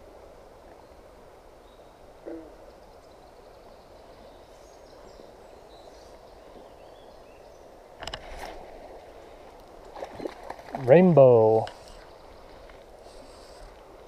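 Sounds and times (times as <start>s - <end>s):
stream hush: 0.0s - 14.0s.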